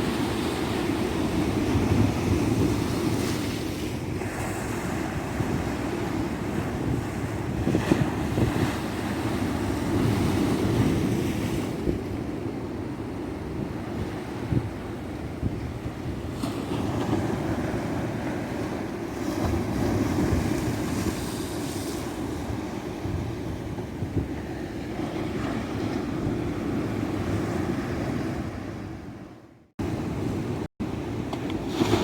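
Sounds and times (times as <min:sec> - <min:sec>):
waves breaking on a beach: 0:00.0 - 0:32.0.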